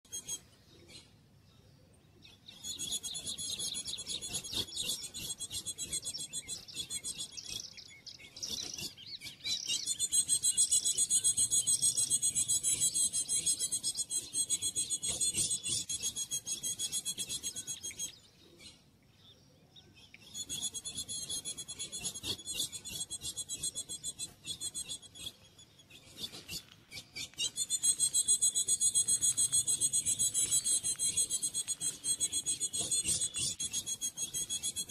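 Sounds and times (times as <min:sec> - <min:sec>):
bird high-pitched chipping: 0:00.0 - 0:01.2, 0:02.2 - 0:34.9.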